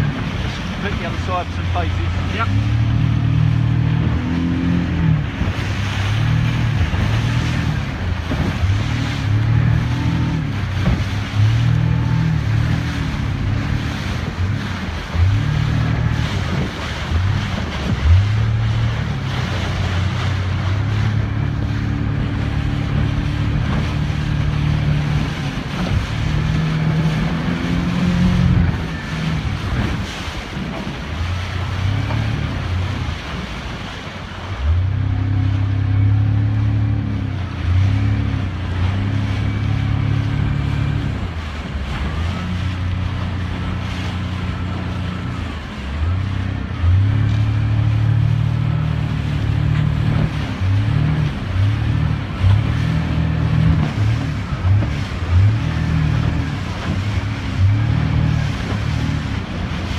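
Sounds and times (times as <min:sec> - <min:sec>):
wind buffeting microphone: 0:00.0 - 0:36.0, 0:36.6 - 0:59.9
motorboat engine running: 0:00.0 - 0:59.9
water splashing against hull: 0:00.0 - 0:59.9.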